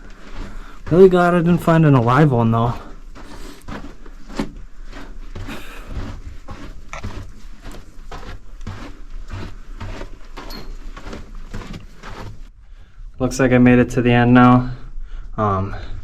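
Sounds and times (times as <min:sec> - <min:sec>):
footsteps in a tunnel: 0:00.0 - 0:13.6.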